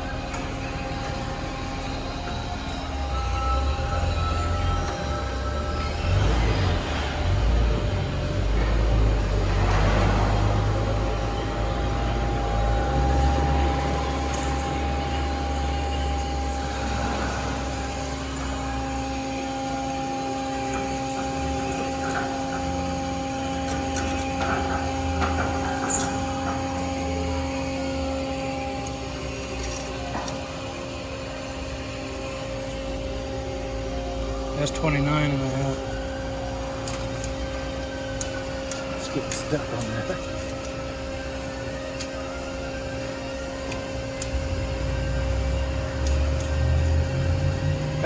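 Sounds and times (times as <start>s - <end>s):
shop machinery humming: 0.0s - 48.0s.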